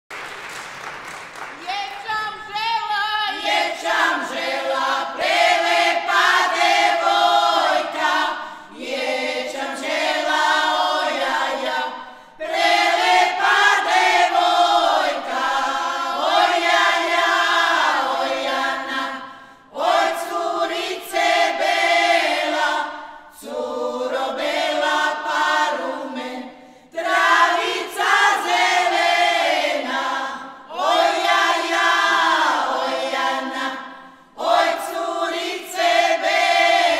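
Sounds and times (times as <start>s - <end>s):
women singing a cappella: 2.4s - 36.9s.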